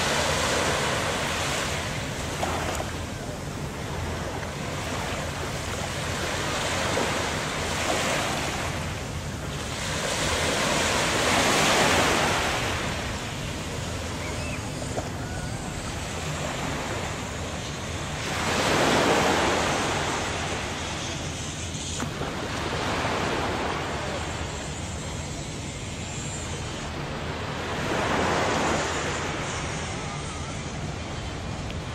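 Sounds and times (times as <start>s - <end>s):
sea waves breaking on beach: 0.0s - 31.9s.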